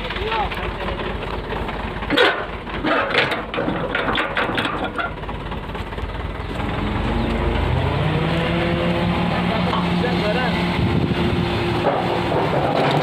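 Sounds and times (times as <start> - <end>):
truck engine clattering: 0.0 - 13.0.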